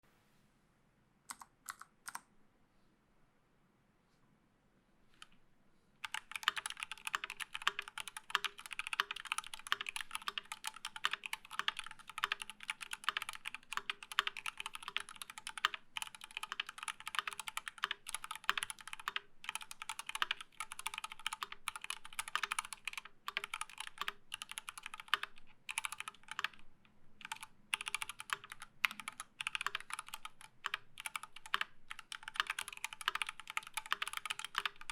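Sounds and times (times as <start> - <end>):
mechanical keyboard typing: 1.3 - 2.3, 6.0 - 34.9.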